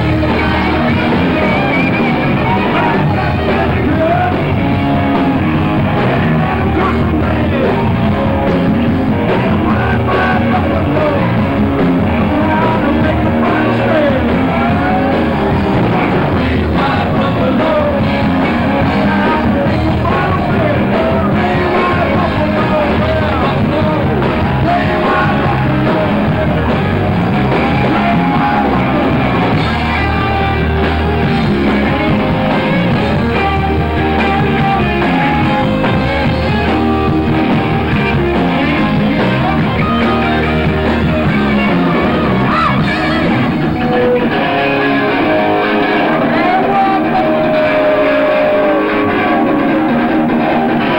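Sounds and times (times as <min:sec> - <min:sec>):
live rock band playing: 0:00.0 - 0:50.9
loud electric guitar: 0:00.0 - 0:50.9
voices singing and yelling: 0:00.0 - 0:50.9.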